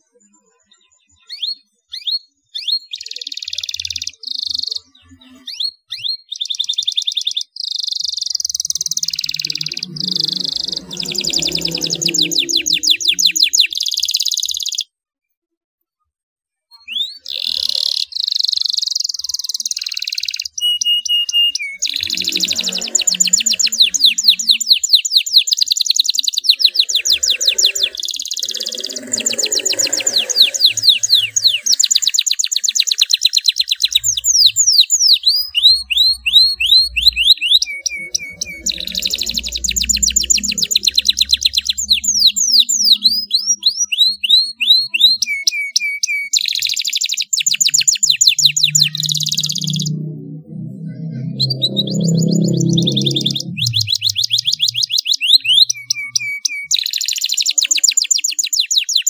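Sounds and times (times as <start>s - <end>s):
canary singing: 0.7s - 14.9s, 16.8s - 59.0s.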